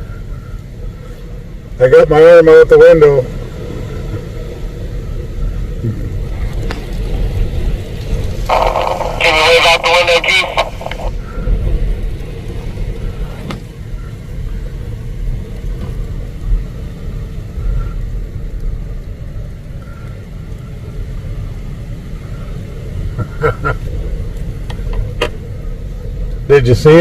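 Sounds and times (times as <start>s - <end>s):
wind buffeting microphone: 3.2s - 27.0s.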